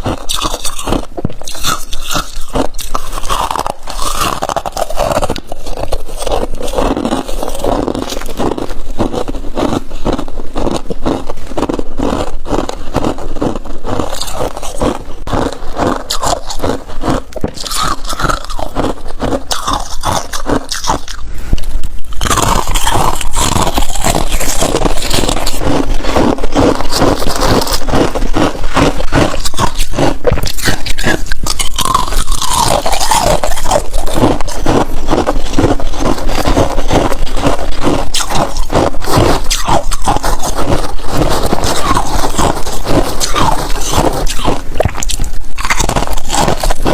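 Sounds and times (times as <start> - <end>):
crunching and chewing frost: 0.0 - 46.9.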